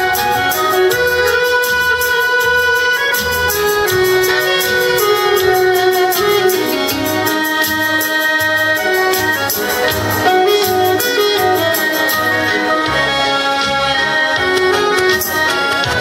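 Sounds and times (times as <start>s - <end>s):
low bass beat: 0.0s - 16.0s
piano accordion: 0.0s - 16.0s
saxophone: 0.0s - 16.0s.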